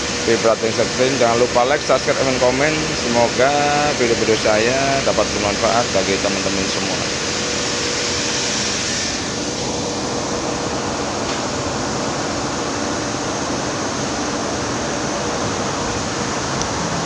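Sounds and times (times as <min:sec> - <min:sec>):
machinery hiss and hum: 0:00.0 - 0:17.0.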